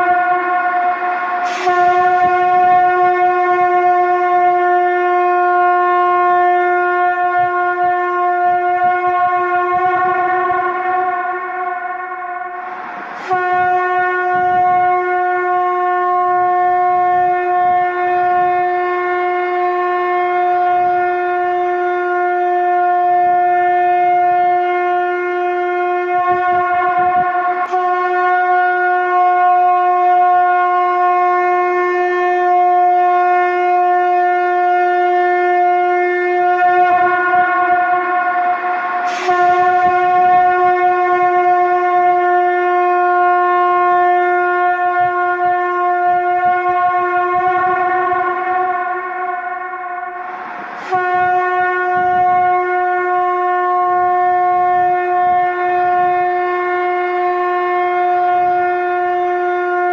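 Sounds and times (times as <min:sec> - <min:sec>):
conch shell blown: 0:00.0 - 0:59.9.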